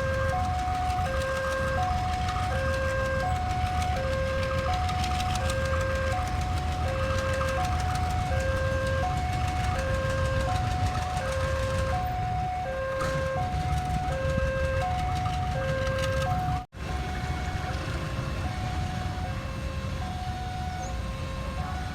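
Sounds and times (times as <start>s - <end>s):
level crossing two-tone alarm: 0.0s - 21.9s
train rumbling: 0.0s - 21.9s.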